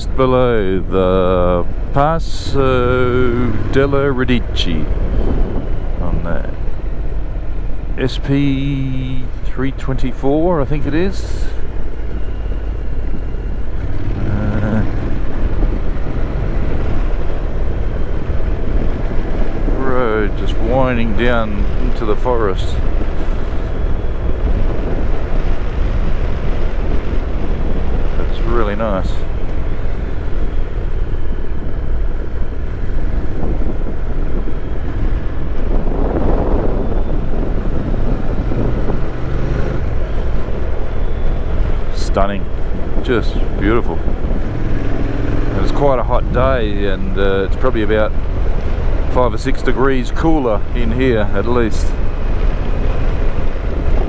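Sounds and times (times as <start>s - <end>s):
motorcycle engine rumble: 0.0s - 54.0s
wind noise: 0.0s - 54.0s.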